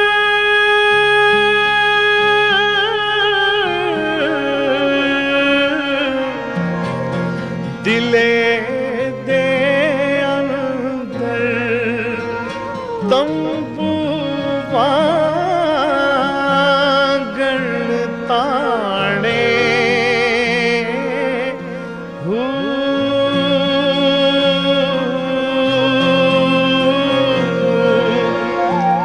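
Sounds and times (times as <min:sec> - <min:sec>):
man singing: 0:00.0 - 0:06.8, 0:07.7 - 0:29.0
harmonium chords: 0:00.0 - 0:29.0.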